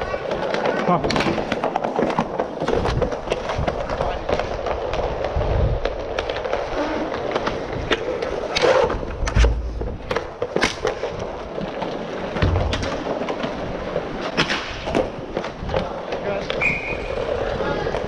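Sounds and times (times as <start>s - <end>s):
hockey sticks clacking: 0.0s - 18.0s
skate wheels rolling on tiles: 0.0s - 18.0s.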